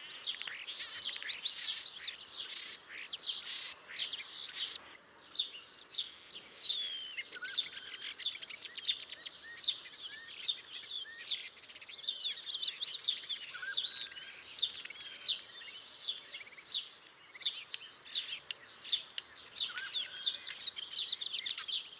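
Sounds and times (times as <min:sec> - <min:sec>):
starlings singing: 0:00.0 - 0:21.9.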